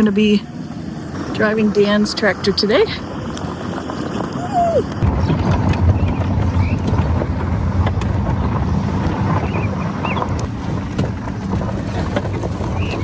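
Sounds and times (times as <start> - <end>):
vehicle engine humming: 0.0 - 13.0
wind on microphone: 0.0 - 13.0.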